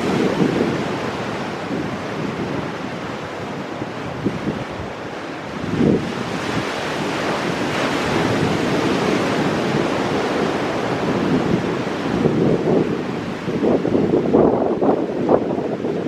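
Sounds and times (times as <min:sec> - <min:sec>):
ocean surf breaking on rocks: 0:00.0 - 0:16.0
wind buffeting microphone: 0:00.0 - 0:16.0.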